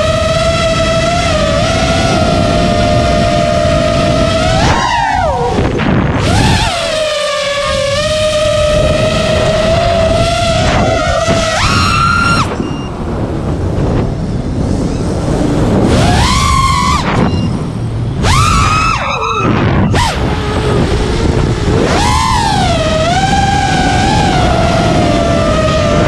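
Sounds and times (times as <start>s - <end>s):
drone motors whining: 0.0s - 26.0s
wind rush on microphone: 0.0s - 26.0s.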